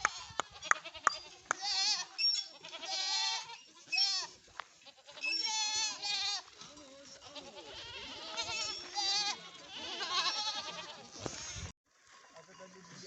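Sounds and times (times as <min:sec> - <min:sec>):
goats bleating: 0:00.0 - 0:11.7.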